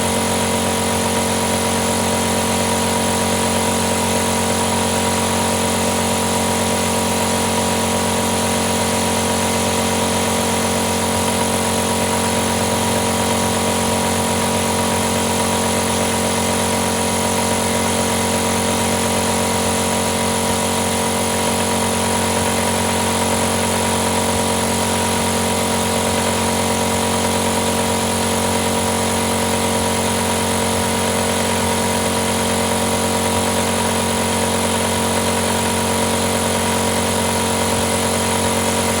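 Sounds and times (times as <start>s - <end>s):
compressor humming: 0.0s - 39.0s.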